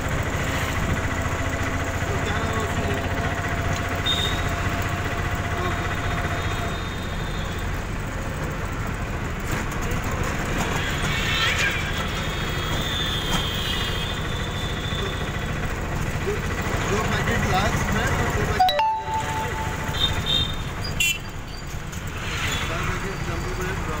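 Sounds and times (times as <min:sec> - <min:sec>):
auto-rickshaw engine rumbling: 0:00.0 - 0:24.0
street traffic: 0:00.0 - 0:24.0.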